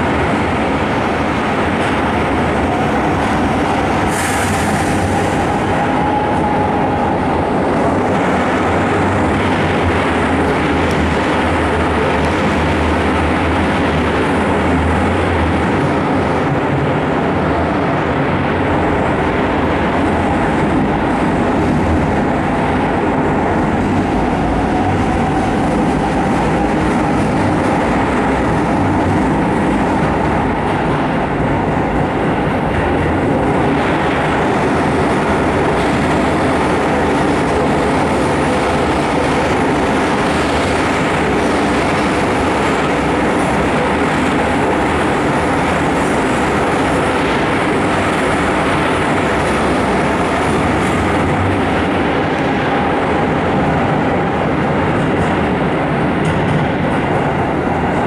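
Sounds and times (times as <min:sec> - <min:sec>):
train wheels roaring on rails: 0:00.0 - 0:58.0.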